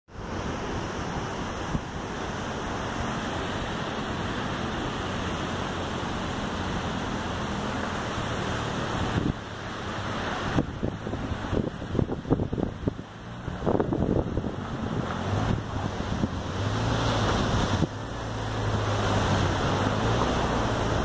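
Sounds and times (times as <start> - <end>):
motorhome engine humming: 0.1 - 21.0
wind noise on microphone: 0.1 - 21.0.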